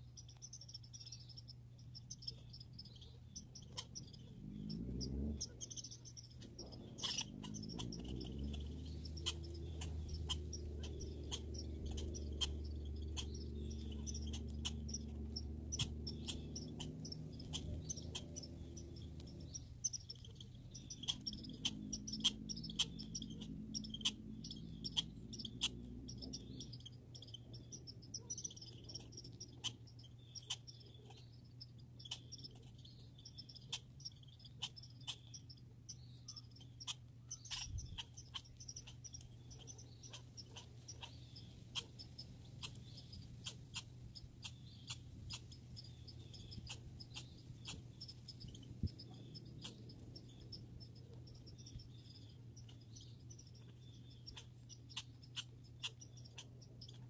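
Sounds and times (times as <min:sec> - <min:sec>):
high chirping calls: 0:00.0 - 0:57.0
low engine-like hum: 0:00.0 - 0:57.0.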